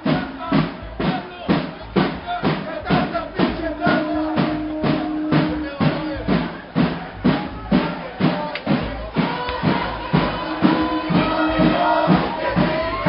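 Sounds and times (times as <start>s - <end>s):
crowd voices: 0.0s - 13.0s
drums beating marching rhythm: 0.0s - 13.0s.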